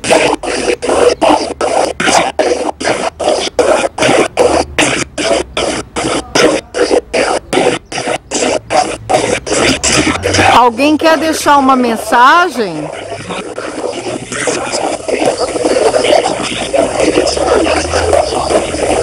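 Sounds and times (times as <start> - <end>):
chopped radio static bursts: 0.0 - 19.0.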